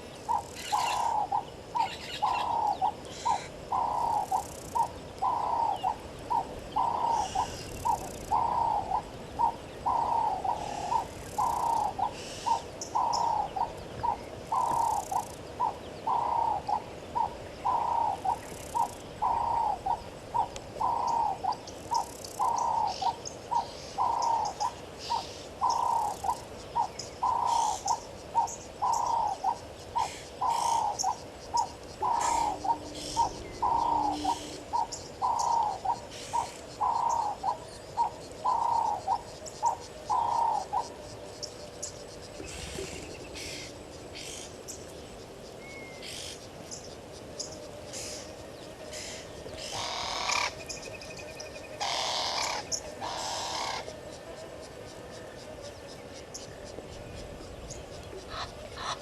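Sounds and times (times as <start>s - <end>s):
bird cooing: 0.0s - 44.6s, 47.4s - 55.8s.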